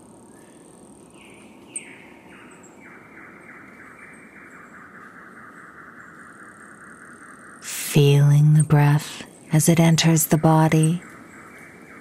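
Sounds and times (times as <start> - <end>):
bird trill: 1.2 - 12.0.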